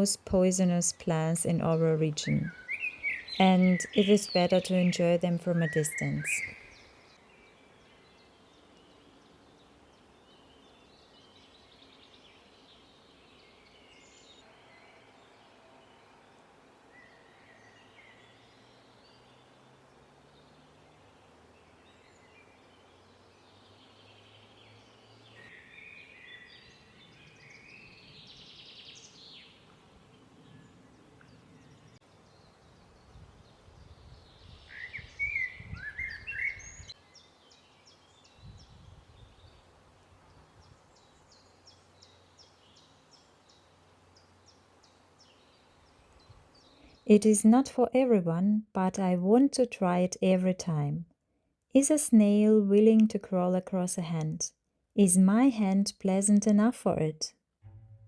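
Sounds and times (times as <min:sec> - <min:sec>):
songbirds chirping: 0:00.0 - 0:51.1, 0:51.8 - 0:58.0.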